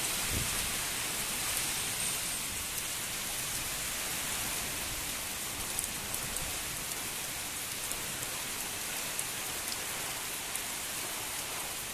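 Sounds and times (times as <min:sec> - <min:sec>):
heavy rain pouring: 0:00.0 - 0:11.9.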